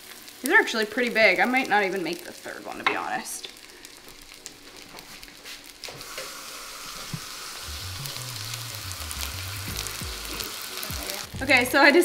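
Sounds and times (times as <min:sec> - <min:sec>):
cutlets sizzling in hot oil: 0:00.0 - 0:12.0.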